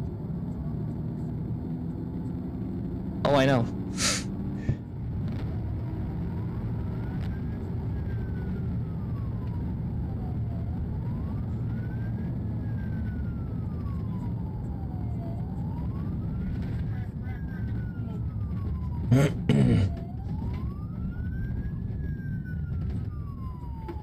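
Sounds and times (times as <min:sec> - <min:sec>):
car engine and road rumble: 0:00.0 - 0:24.0
police siren wailing: 0:00.0 - 0:24.0.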